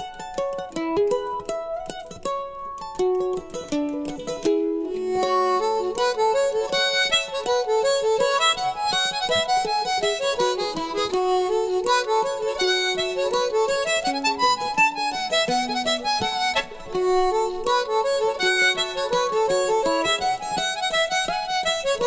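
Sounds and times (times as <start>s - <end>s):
melody over plucked notes: 0.0s - 22.0s.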